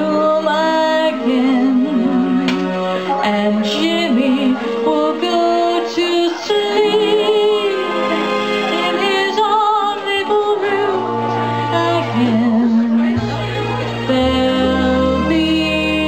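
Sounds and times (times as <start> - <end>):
backing track music: 0.0 - 16.0
woman singing with vibrato: 0.0 - 16.0.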